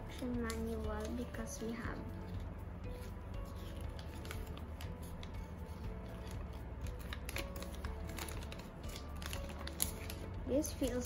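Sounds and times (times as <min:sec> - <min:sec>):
paper rustling and crackling: 0:00.0 - 0:11.0
quiet background music: 0:00.0 - 0:11.0.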